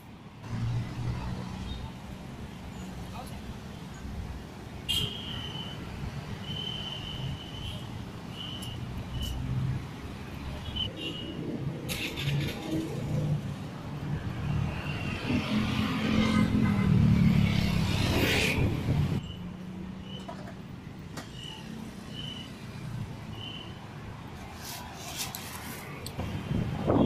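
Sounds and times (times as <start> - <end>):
traffic hum: 0.0 - 27.0.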